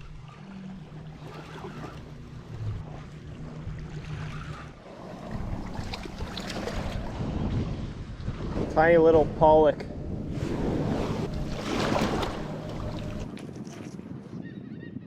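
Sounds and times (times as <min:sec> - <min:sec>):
low motor drone: 0:00.0 - 0:13.4
ocean waves: 0:00.0 - 0:13.5
wind: 0:00.0 - 0:15.0.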